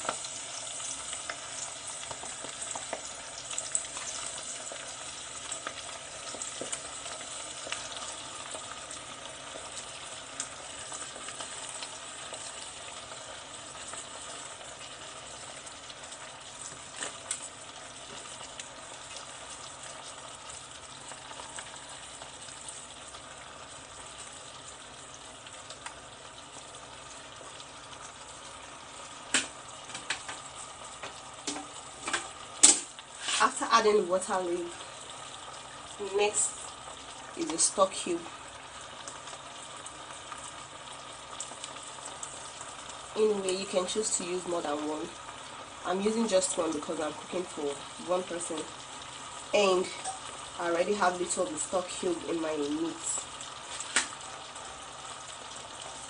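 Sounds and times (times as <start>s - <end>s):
oil and onions sizzling in a pot: 0.0s - 56.0s
small crackles: 0.0s - 56.0s.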